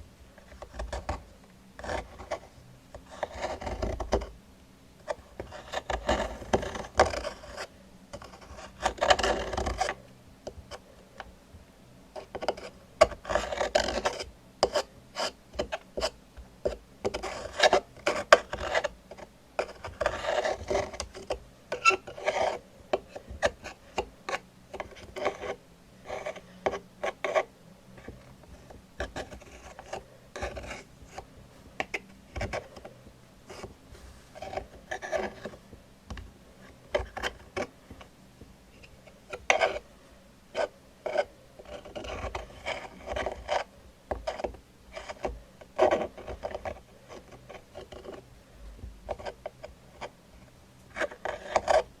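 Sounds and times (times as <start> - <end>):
scratching on hard surface: 0.3 - 4.4, 5.0 - 11.3, 12.1 - 39.9, 40.5 - 52.0.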